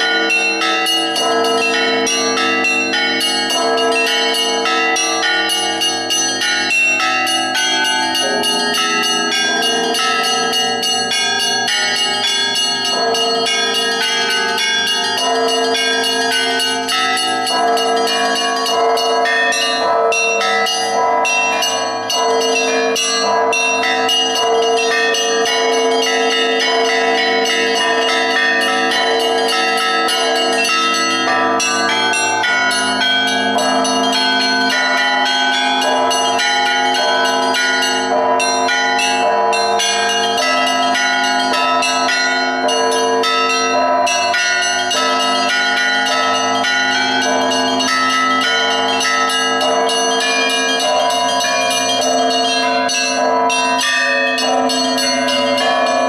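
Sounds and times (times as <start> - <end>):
large bells ringing: 0.0 - 56.0
small bells striking rapidly: 0.0 - 56.0.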